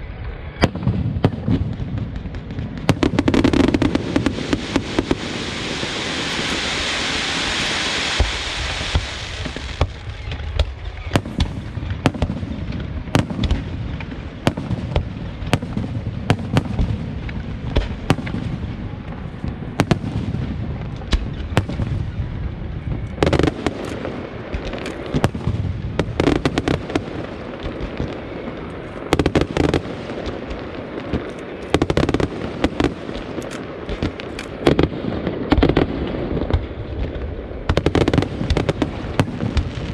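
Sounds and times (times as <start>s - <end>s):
fireworks bursting: 0.0s - 39.9s
hissing crackle of fireworks: 0.0s - 39.9s.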